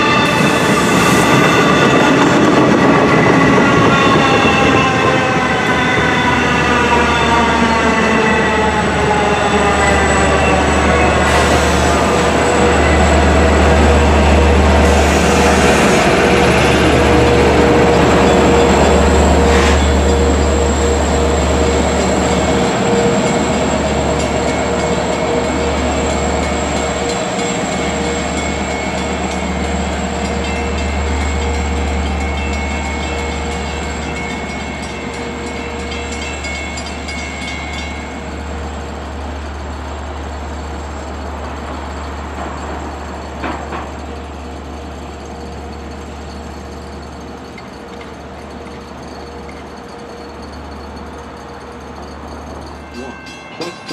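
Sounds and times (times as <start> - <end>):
train rumble with held tone: 0.0 - 53.9
train whine: 0.0 - 53.9.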